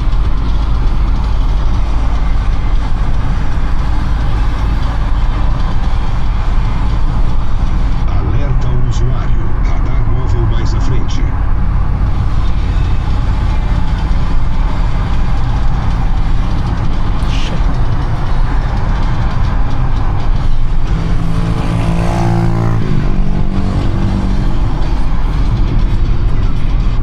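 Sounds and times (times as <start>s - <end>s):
deep vehicle engine drone: 0.0s - 27.0s
traffic engine and road rumble: 0.0s - 27.0s.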